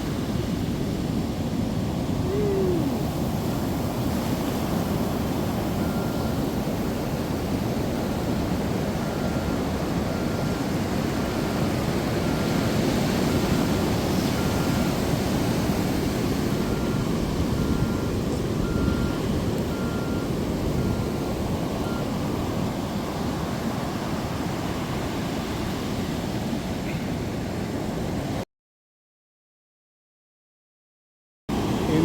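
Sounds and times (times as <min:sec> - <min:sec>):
ocean surf breaking: 0:00.0 - 0:28.4, 0:31.5 - 0:32.0.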